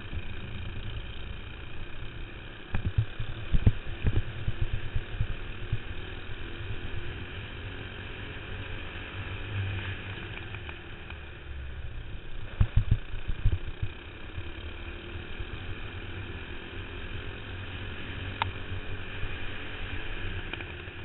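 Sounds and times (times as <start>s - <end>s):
kart engine running: 0.0s - 21.0s.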